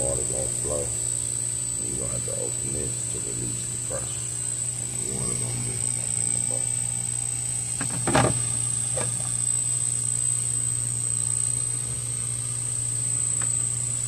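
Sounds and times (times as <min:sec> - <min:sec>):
aquarium water pump humming: 0:00.0 - 0:14.0
high-pitched whine: 0:00.0 - 0:14.0.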